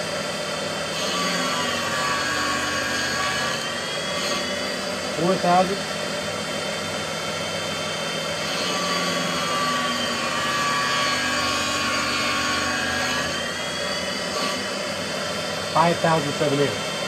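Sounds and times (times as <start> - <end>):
valve grinding machine running: 0.0 - 17.0.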